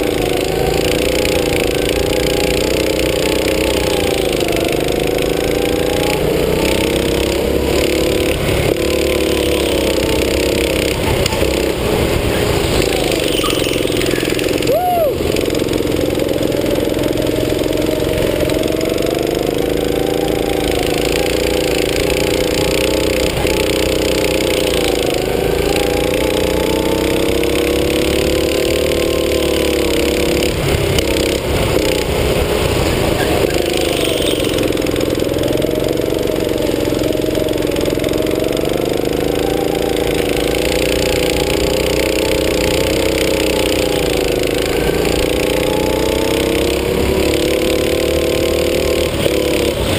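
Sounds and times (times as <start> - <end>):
go-kart engine revving: 0.0 - 49.9.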